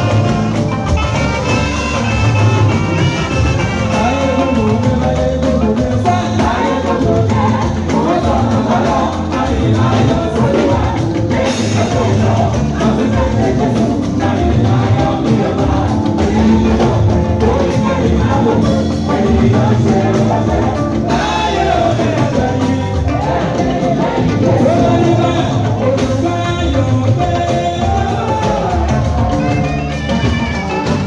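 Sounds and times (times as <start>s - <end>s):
church choir singing: 0.0s - 31.0s
instrumental accompaniment: 0.0s - 31.0s.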